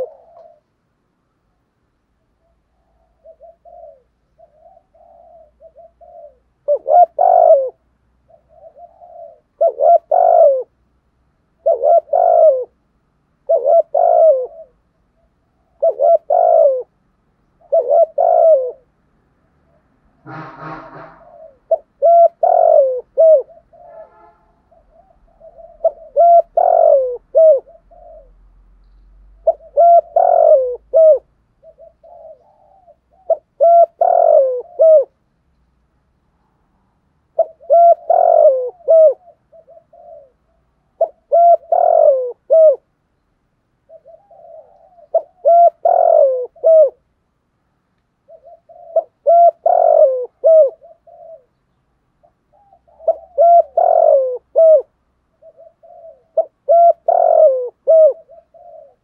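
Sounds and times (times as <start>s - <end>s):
dove cooing: 0.0s - 0.8s, 2.3s - 10.9s, 11.5s - 12.8s, 13.4s - 35.2s, 37.3s - 43.0s, 43.8s - 47.1s, 48.2s - 51.6s, 52.2s - 59.0s.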